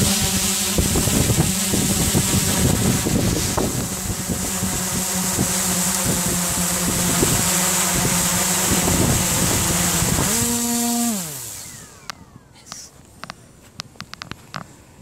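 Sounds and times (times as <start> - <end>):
drone propellers whirring: 0.0 - 14.6.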